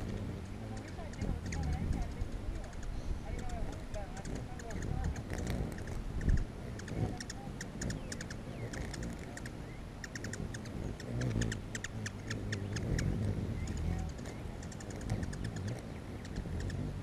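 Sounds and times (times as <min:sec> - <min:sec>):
hummingbird wings buzzing: 0:00.0 - 0:17.0
hummingbirds chirping and chattering: 0:00.0 - 0:17.0.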